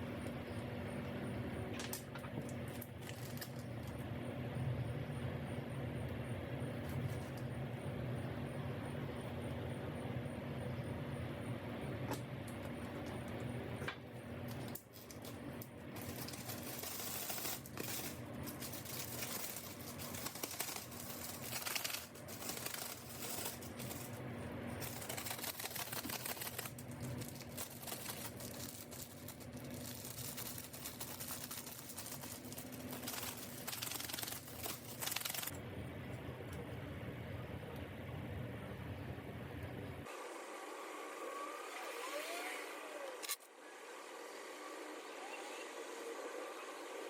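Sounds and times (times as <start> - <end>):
steady low hum: 0.0 - 40.6.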